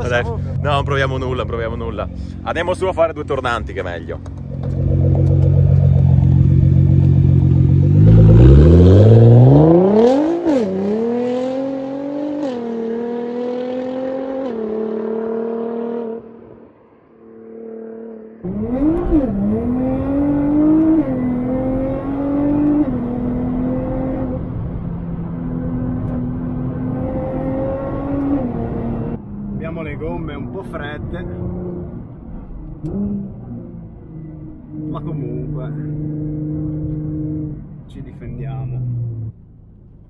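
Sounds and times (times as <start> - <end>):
car engine accelerating through gears: 4.2 - 16.7, 17.3 - 37.8, 38.6 - 39.4.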